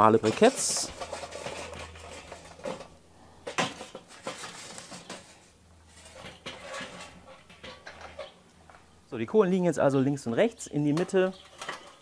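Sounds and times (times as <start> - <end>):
charcoal clattering against metal: 0.0 - 8.9, 10.7 - 12.0
charcoal rattling: 0.0 - 8.9, 10.0 - 12.0.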